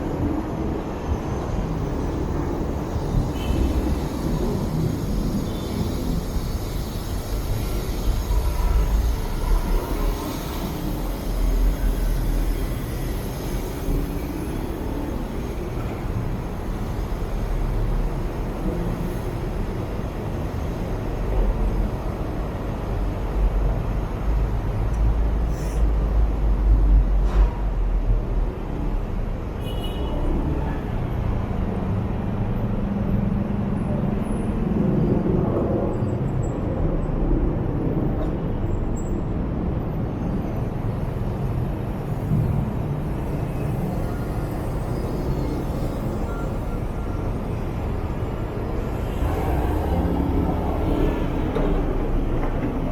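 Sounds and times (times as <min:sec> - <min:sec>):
surrounding traffic: 0:00.0 - 0:52.9.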